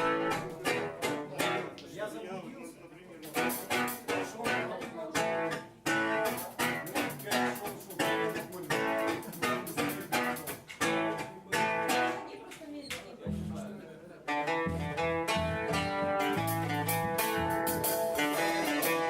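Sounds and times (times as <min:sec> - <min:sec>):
acoustic guitar strumming chords: 0:00.0 - 0:01.7, 0:03.3 - 0:12.2, 0:14.3 - 0:19.0.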